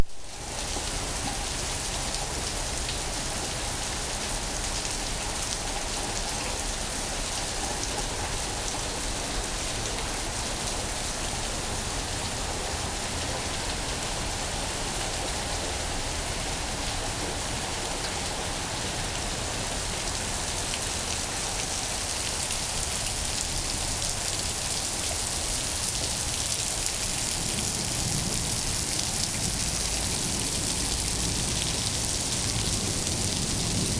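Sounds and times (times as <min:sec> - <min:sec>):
rain pouring down: 0:00.0 - 0:33.9.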